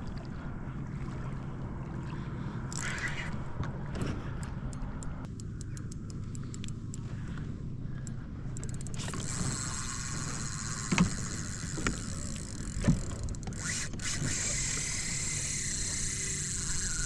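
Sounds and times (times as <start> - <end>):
water: 0.0 - 17.0
wind: 0.0 - 17.0.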